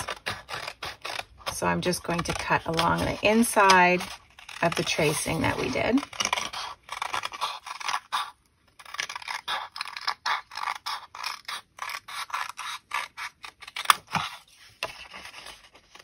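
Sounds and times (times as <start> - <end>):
scissors snipping paper: 0.0 - 16.0.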